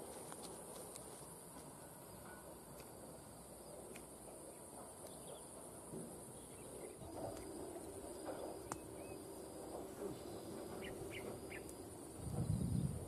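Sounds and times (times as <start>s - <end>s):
faint outdoor background noise: 0.0s - 13.0s
insects chirring: 0.0s - 13.0s.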